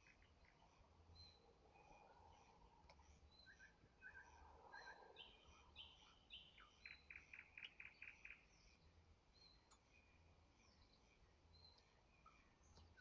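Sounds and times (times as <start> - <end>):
faint bird song with trills: 0.0 - 13.0.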